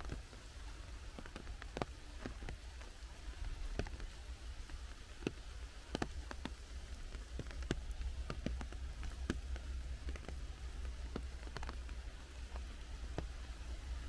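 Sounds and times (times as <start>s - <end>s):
light rain hissing: 0.0s - 14.0s
raindrops falling on leaves: 0.0s - 14.0s.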